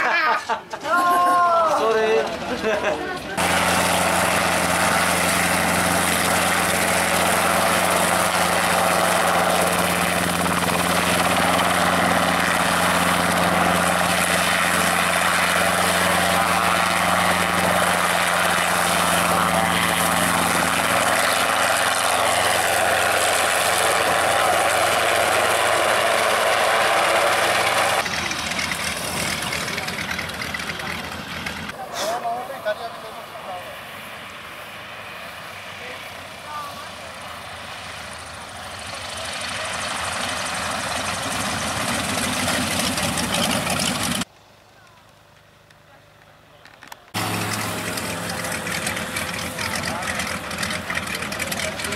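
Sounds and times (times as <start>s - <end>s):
helicopter rotor and air noise: 2.0s - 44.3s, 46.7s - 51.9s
helicopter engine hum: 2.2s - 31.9s, 33.8s - 44.3s, 46.8s - 51.9s.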